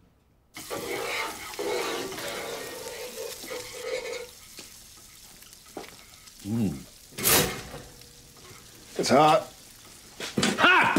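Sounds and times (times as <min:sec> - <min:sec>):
food sizzling in a frying pan: 0:00.6 - 0:10.9.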